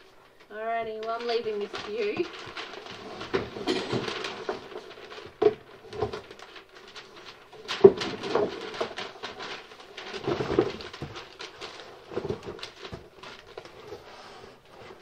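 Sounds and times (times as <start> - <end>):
paper sheets rustling: 0.0 - 15.0.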